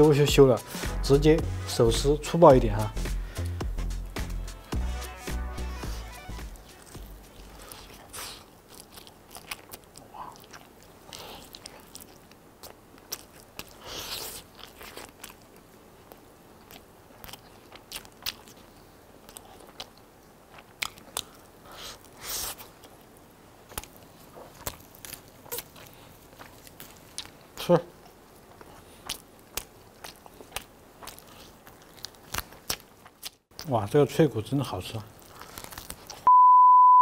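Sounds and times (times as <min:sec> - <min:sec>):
person chewing meat: 0:02.9 - 0:33.7, 0:34.9 - 0:36.3
cartilage crunching: 0:06.4 - 0:36.3.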